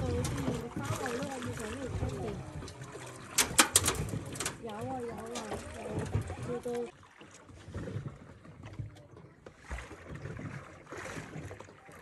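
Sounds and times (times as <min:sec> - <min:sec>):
waves lapping against boat hull: 0:00.0 - 0:12.0.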